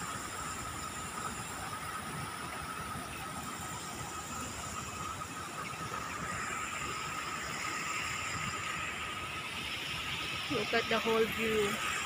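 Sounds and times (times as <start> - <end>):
stream water trickling over rocks: 0.0 - 12.0.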